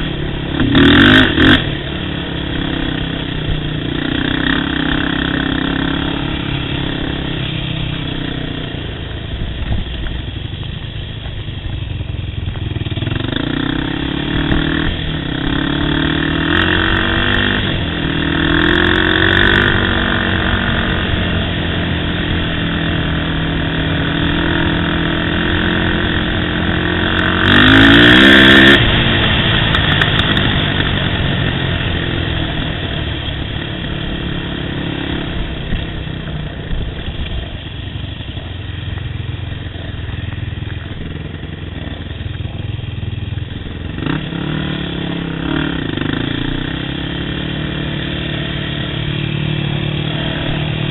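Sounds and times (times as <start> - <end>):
atv engine revving: 0.0 - 10.7, 11.6 - 50.9
rushing noise: 0.0 - 50.9.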